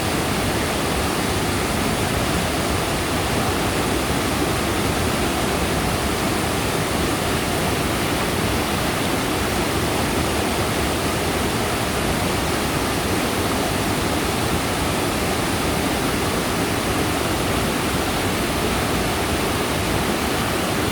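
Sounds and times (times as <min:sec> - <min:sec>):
stream rushing over rocks: 0:00.0 - 0:20.9.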